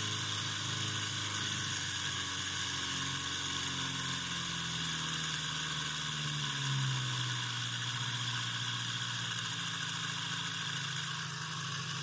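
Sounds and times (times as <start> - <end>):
electric motor vibrating hum: 0.0 - 12.0.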